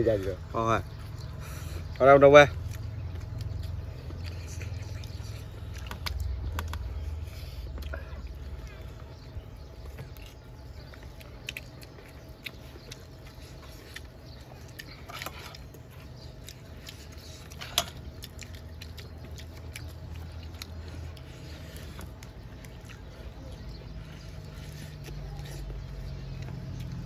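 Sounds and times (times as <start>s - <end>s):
chewing and mouth smacks: 0.8s - 27.0s.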